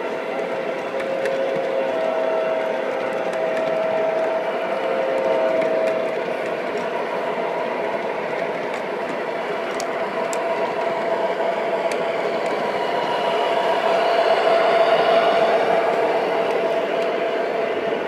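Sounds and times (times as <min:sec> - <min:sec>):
model train wheels rumbling on track: 0:00.0 - 0:18.0
steady hum: 0:00.0 - 0:18.0.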